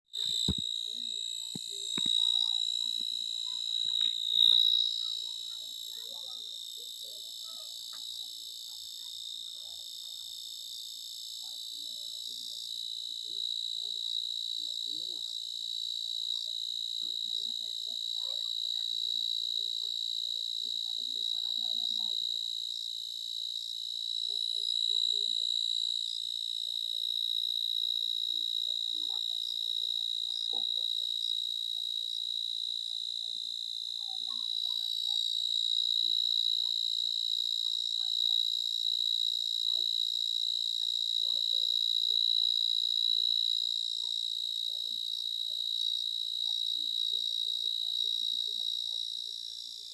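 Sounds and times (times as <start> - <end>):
faint scattered sounds: 0.0 - 49.9
insect chorus trilling: 0.2 - 49.9.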